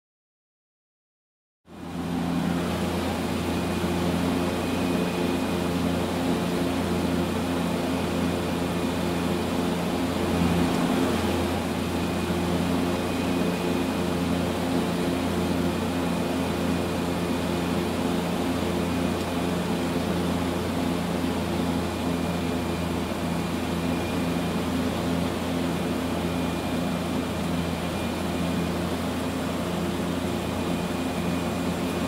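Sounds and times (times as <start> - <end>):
propeller plane cabin drone: 1.7 - 32.0.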